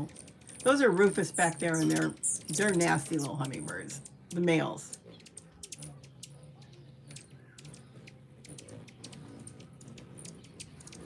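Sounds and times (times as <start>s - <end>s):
high-pitched bird chips: 0.0s - 11.0s
low steady hum: 0.0s - 11.0s.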